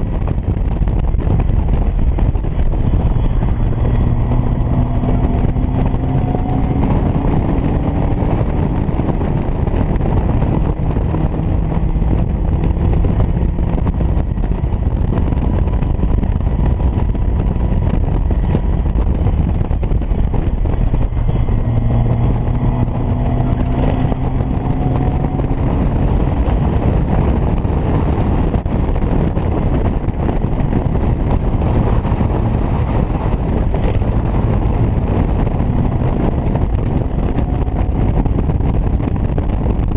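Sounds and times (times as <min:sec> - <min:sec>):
race car engine running hard: 0:00.0 - 0:39.9
wind and road noise: 0:00.0 - 0:39.9.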